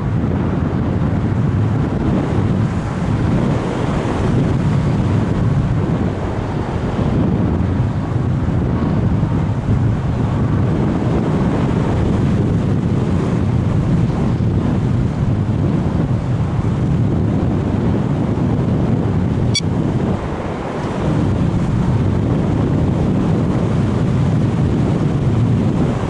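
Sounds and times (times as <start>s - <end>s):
wind noise rumbling: 0.0s - 26.0s.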